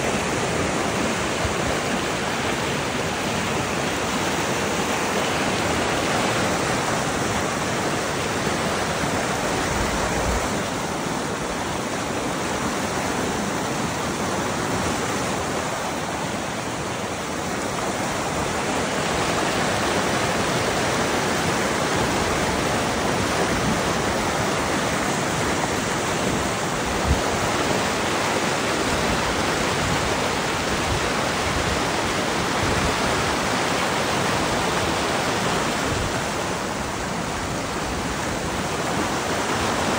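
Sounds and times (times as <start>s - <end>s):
fast turbulent water rushing: 0.0s - 39.9s.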